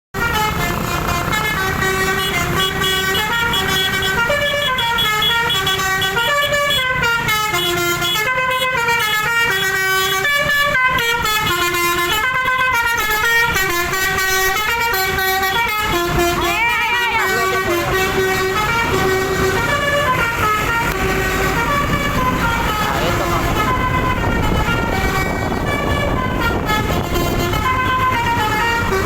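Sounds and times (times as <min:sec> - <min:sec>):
musical horn playing tune: 0:00.2 - 0:29.0.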